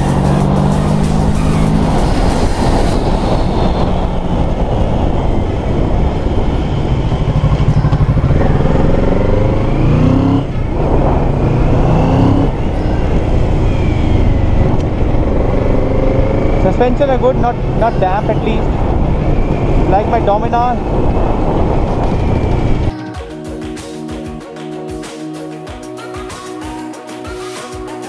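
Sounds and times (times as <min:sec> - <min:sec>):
motorcycle engine revving: 0:00.0 - 0:22.9
wind noise on microphone: 0:00.0 - 0:23.0.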